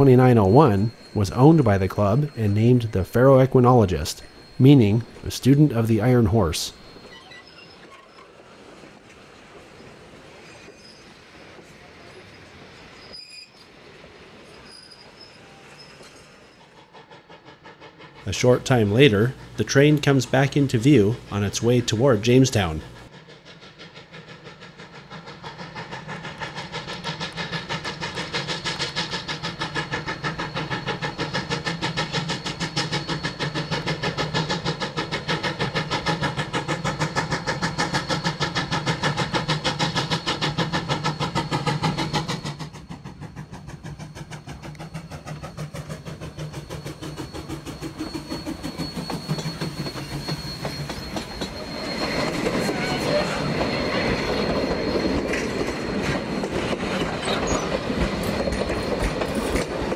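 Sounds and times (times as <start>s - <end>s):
steam locomotive exhaust beat: 0.0s - 7.2s, 16.3s - 59.9s
wheel squeal: 0.0s - 8.5s, 9.7s - 13.8s, 14.4s - 17.6s, 23.9s - 59.9s.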